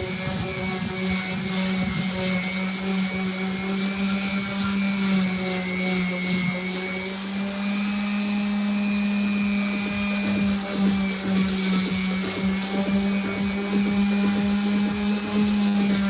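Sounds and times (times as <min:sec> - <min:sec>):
power sander sanding wood: 0:00.0 - 0:16.0.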